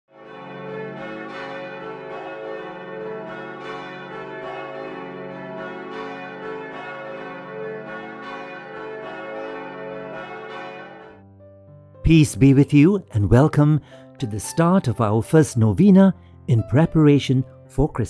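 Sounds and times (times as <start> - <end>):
church bells pealing: 0.1 - 11.3, 12.0 - 17.5.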